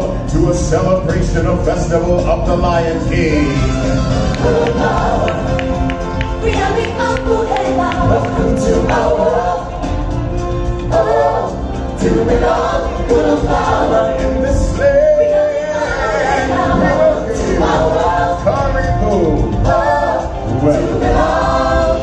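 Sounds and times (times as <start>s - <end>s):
backing music: 0.0s - 22.0s
choir singing into microphones: 2.5s - 22.0s.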